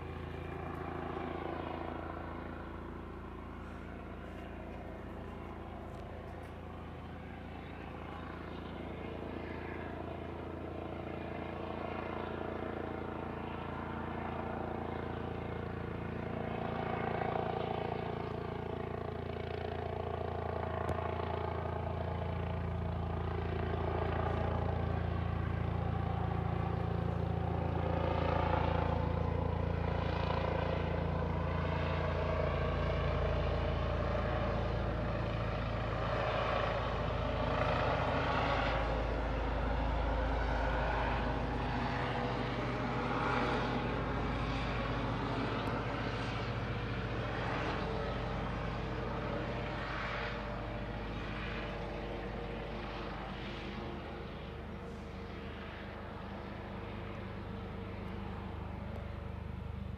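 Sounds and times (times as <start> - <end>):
helicopter rotor and turbine drone: 0.0 - 59.9.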